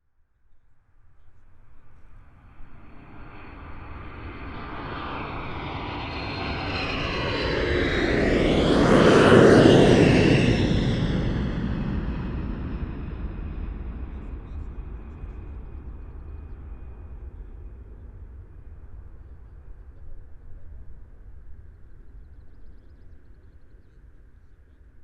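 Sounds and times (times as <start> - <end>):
aeroplane flying overhead: 0.5 - 25.0.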